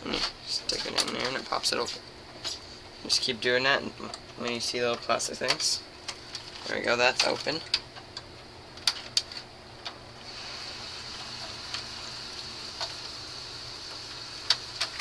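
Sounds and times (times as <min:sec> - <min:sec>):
steady hiss: 0:00.0 - 0:07.7, 0:10.0 - 0:15.0.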